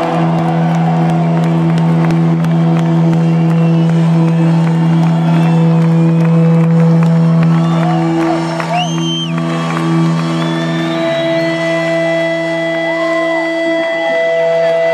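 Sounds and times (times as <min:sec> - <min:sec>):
crowd whistling and whooping: 0:00.0 - 0:14.9
rock band sustained note: 0:00.0 - 0:14.9.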